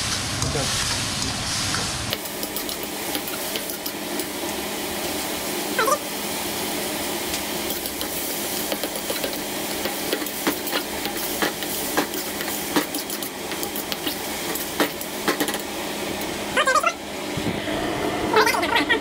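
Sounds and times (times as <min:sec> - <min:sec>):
food sizzling: 0:00.0 - 0:17.3.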